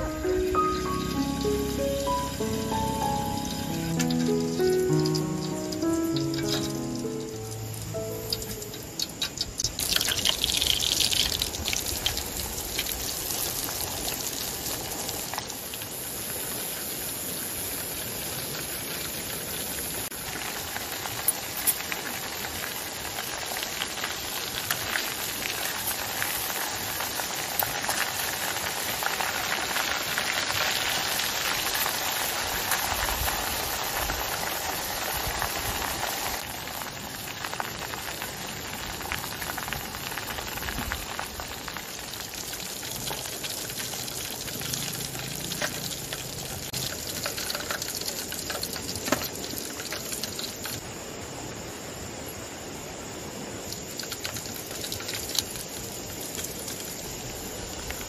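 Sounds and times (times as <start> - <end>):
chicken deep-frying in oil: 0.0 - 58.0.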